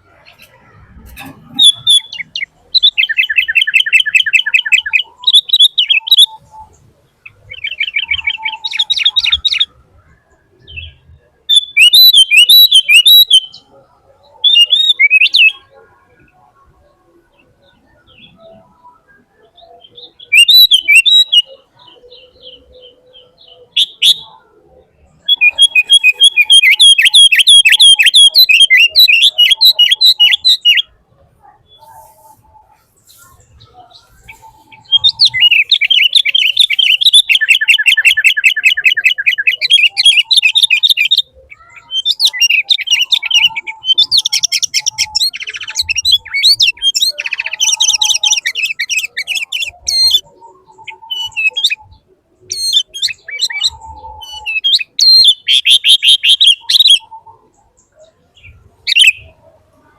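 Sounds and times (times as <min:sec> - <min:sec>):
bird chirping and trilling: 0:00.0 - 0:59.7.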